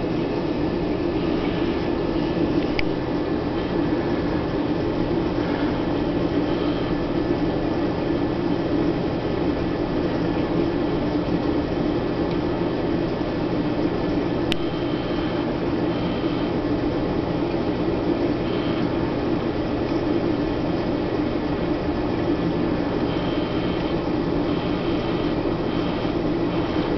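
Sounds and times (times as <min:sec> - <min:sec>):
aquarium equipment hum: 0:00.0 - 0:26.9
water circulating: 0:00.0 - 0:26.9.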